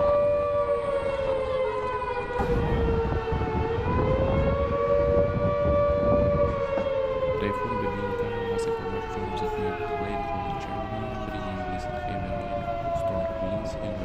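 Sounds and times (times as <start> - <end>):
warning siren wailing: 0.0 - 14.0
low rumbling noise: 2.3 - 14.0.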